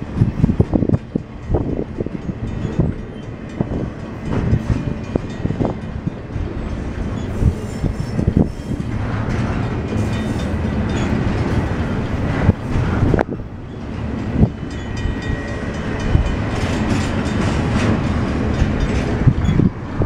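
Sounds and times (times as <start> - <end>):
clanks of wheels and couplings: 0.0 - 20.0
steel wheels rumbling on rail: 0.0 - 20.0.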